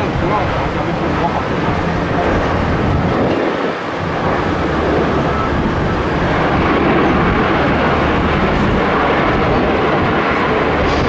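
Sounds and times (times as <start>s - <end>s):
jet airliner engines roaring: 0.0s - 11.0s.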